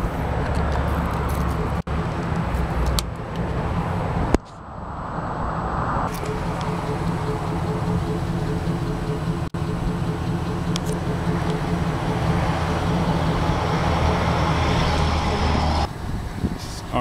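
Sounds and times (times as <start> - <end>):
truck engine idling: 0.0 - 4.7, 6.1 - 16.3.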